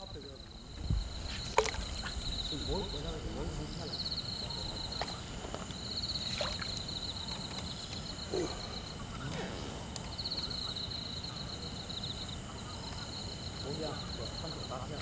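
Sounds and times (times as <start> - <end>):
high-pitched insect hiss: 0.0 - 15.0
insects trilling: 0.0 - 15.0.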